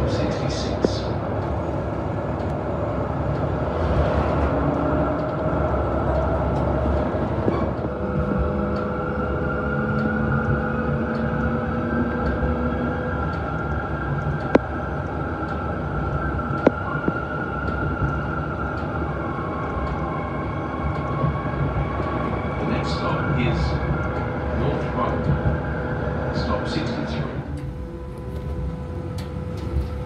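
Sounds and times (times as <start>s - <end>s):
steady whining tones: 0.0s - 30.0s
tram rumbling on track: 0.0s - 30.0s.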